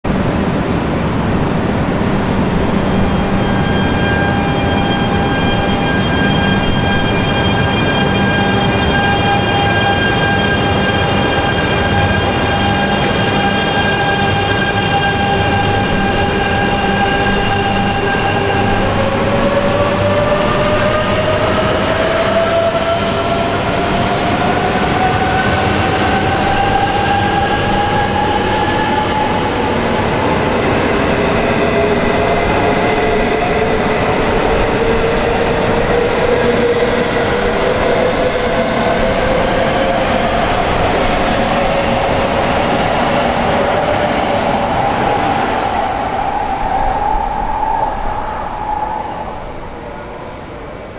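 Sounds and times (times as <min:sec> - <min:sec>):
train wheels rushing: 0:00.4 - 0:50.9.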